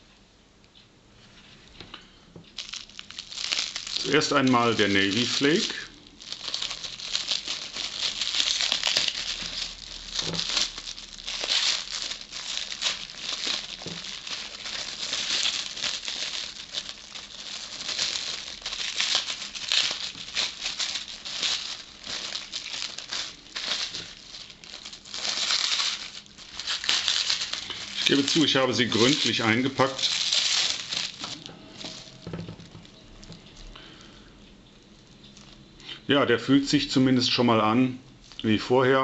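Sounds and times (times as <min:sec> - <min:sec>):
cling film crinkling: 0:02.5 - 0:35.8.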